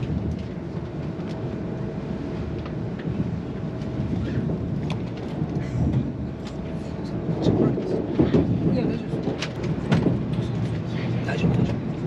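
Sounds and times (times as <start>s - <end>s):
train rumbling from inside: 0.0s - 12.0s.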